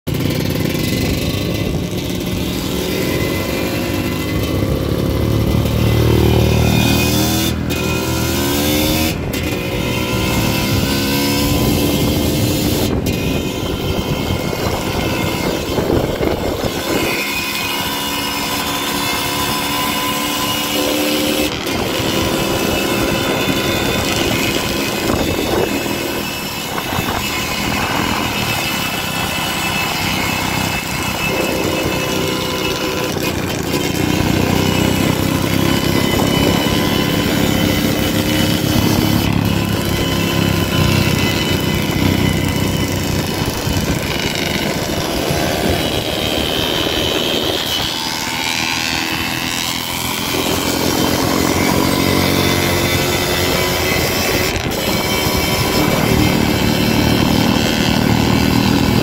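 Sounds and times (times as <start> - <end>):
dirt bike engine revving: 0.1 - 59.0.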